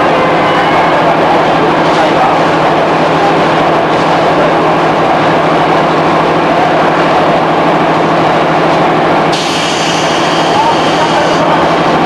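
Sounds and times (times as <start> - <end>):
rumble of wheels on rail: 0.0 - 12.0.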